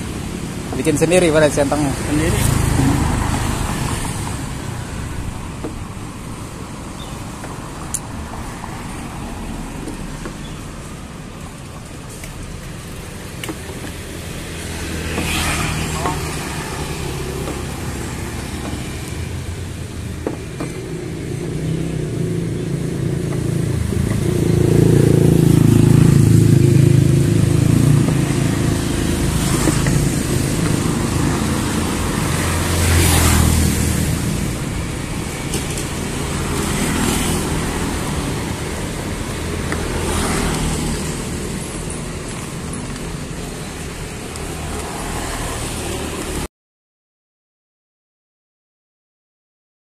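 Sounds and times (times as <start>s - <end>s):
road traffic passing: 0.0s - 46.5s.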